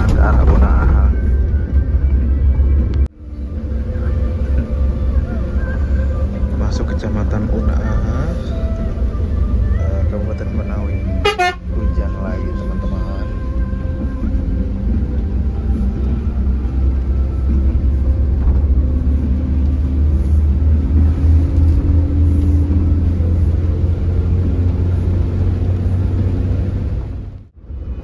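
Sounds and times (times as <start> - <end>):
bus diesel engine running: 0.0 - 28.0
road rumble: 0.0 - 28.0.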